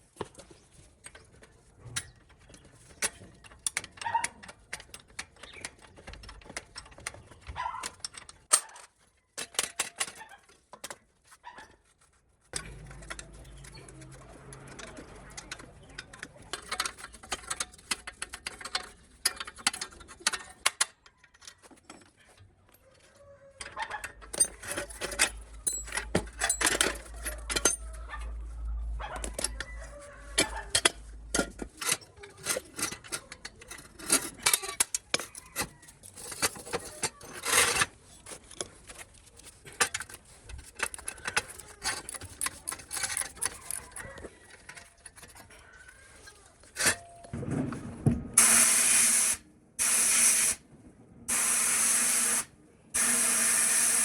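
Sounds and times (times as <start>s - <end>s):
metal tools clinking and clattering: 0.4s - 23.0s, 23.6s - 47.4s.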